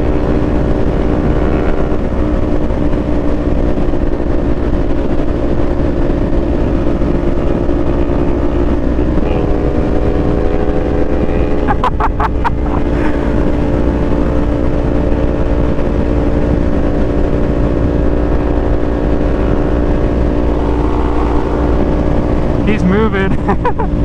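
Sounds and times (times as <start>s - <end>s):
low wind rumble: 0.0s - 24.0s
motorcycle engine cruising: 0.0s - 24.0s.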